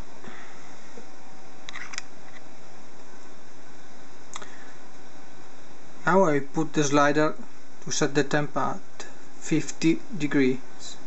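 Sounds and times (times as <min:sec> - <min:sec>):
small cooling fan whirring: 0:00.0 - 0:11.0.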